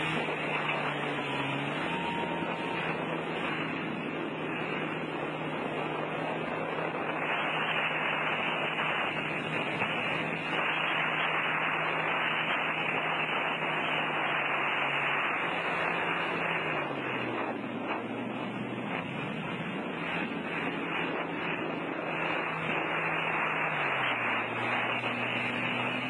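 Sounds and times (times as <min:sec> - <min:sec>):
jet ski engine running: 0:00.0 - 0:26.0
water spray rushing: 0:00.0 - 0:26.0.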